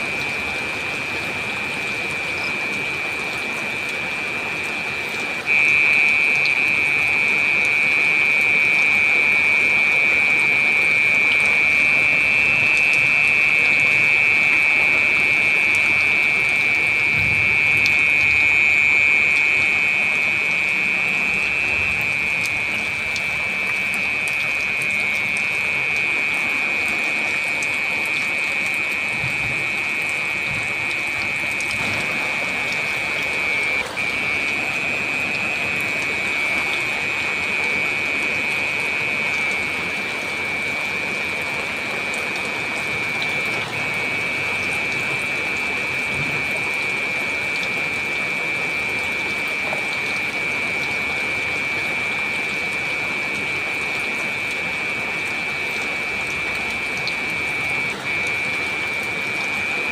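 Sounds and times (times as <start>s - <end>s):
heavy rain: 0.0s - 59.9s
high-pitched whine: 0.0s - 59.9s.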